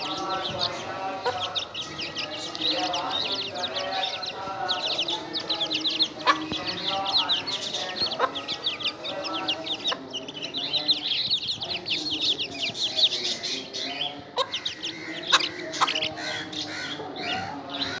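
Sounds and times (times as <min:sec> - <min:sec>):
chicks peeping: 0:00.0 - 0:18.0
hen clucking: 0:00.0 - 0:18.0.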